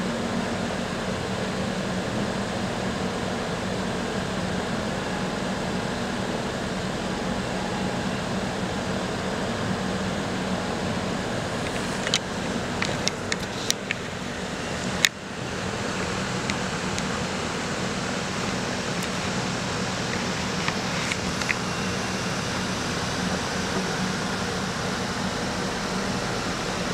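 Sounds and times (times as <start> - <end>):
steady mechanical hum: 0.0 - 26.9.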